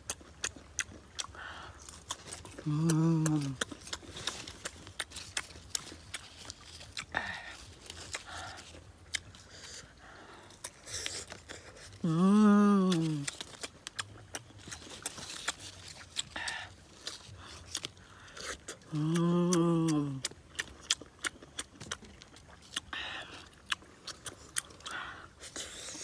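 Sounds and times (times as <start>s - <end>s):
crunching and chewing: 0.0s - 26.0s.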